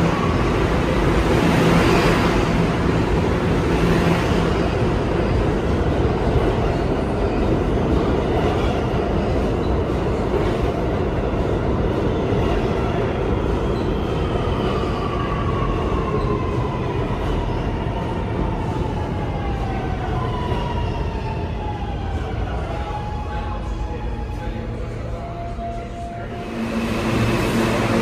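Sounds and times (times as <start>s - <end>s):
subway train wheels rumbling: 0.0s - 28.0s.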